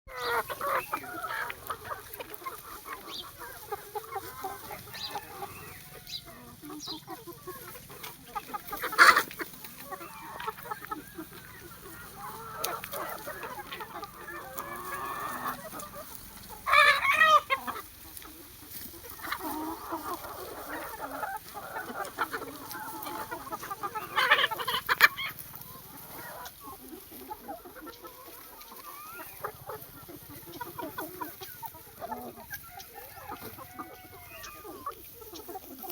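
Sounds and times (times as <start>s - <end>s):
chickens clucking: 0.1s - 35.9s
loud chicken calls: 0.1s - 35.9s.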